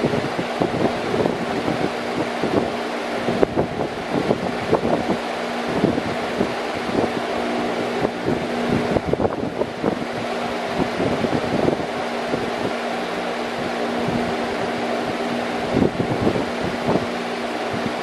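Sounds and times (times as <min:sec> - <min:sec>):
electric fan running: 0:00.0 - 0:18.0
wind buffeting microphone: 0:00.0 - 0:18.0.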